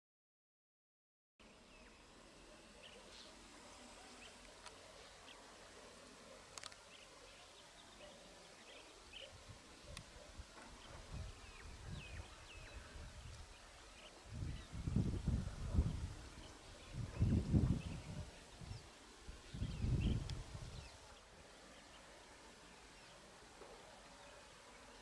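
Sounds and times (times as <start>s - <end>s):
quiet outdoor hiss: 1.4s - 25.0s.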